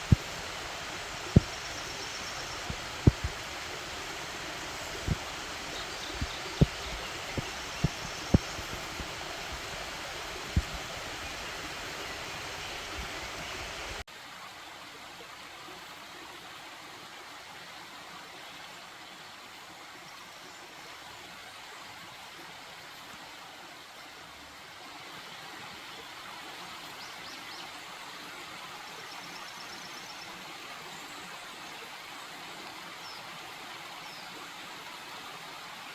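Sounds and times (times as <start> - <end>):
rushing stream water: 0.0 - 35.9.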